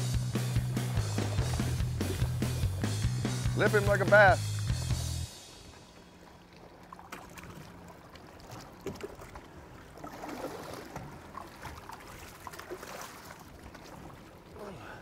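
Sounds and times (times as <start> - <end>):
water sloshing along hull underwater: 0.6 - 3.0, 4.4 - 15.0.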